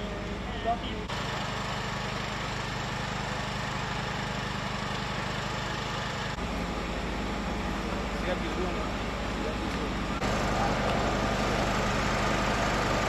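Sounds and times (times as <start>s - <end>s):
idling machinery hum: 0.0s - 13.0s.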